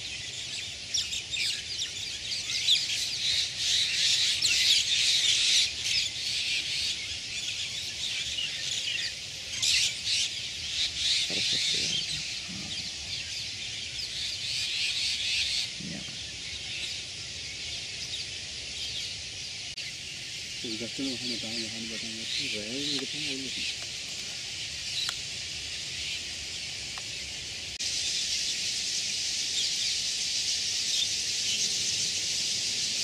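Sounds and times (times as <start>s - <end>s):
flock of birds chirping: 0.0s - 33.0s.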